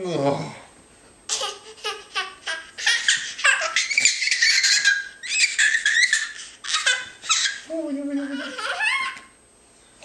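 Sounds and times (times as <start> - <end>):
toddler laughing: 1.3 - 9.3.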